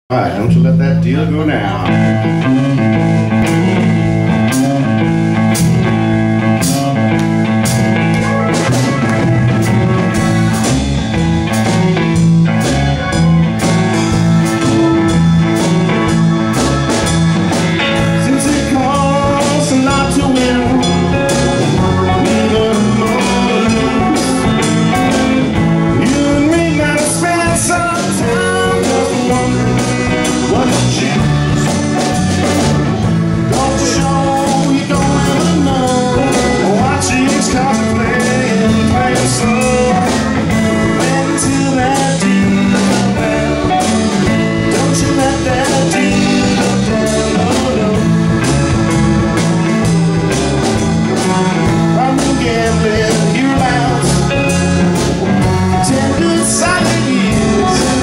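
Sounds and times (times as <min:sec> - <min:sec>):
blues-rock band playing: 0:00.1 - 0:58.0
electric guitar bending notes: 0:00.1 - 0:58.0.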